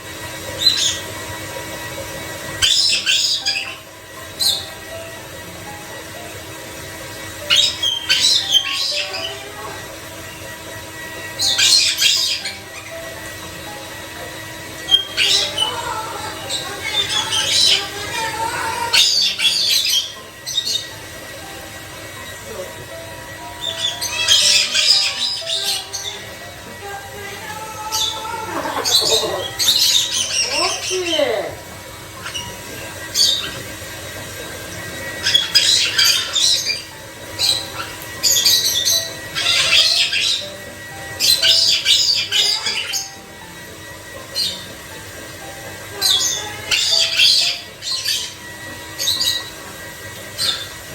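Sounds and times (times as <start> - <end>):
parrot squawking: 0.0 - 50.9.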